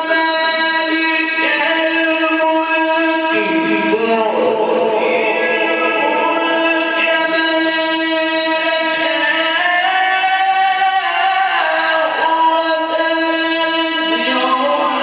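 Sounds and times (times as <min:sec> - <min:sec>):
melodic religious recitation: 0:00.0 - 0:15.0.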